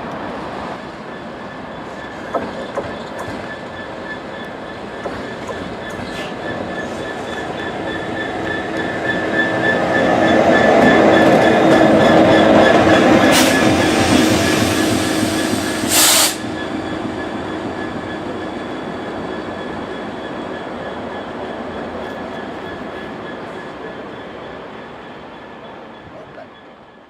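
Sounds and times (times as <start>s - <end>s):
train passing: 0.0s - 27.0s.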